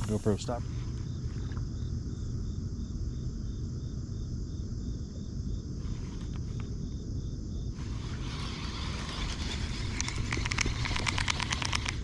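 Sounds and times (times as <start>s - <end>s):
insect chirping: 0.0s - 12.0s
low steady rumble: 0.0s - 12.0s.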